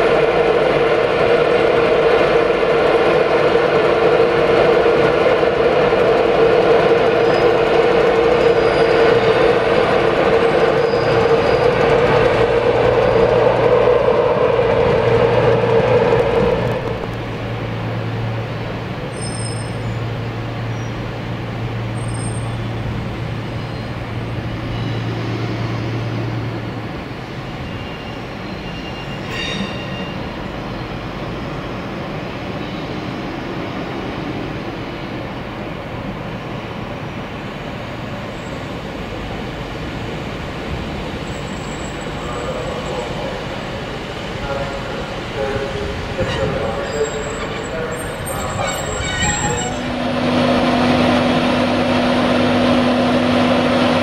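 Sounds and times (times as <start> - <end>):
train moving: 0.0 - 54.0.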